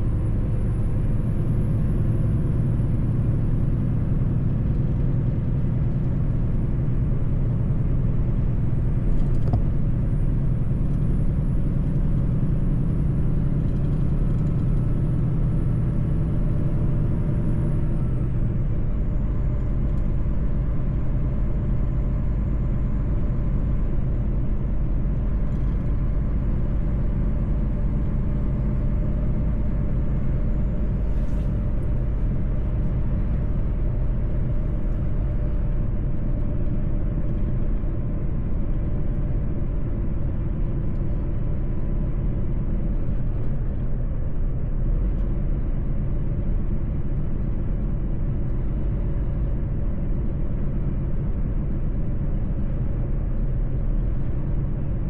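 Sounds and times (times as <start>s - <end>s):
road rumble: 0.0s - 55.0s
truck engine drone: 0.0s - 55.0s.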